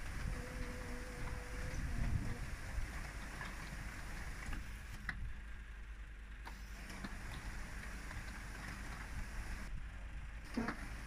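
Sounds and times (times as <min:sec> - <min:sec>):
machinery engine humming: 0:00.0 - 0:11.0.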